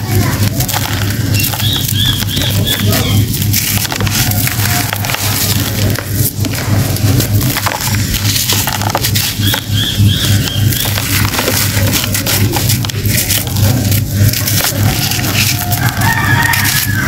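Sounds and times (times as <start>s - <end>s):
compressed sand crunching: 0.0s - 17.0s
steady low hum: 0.0s - 17.0s.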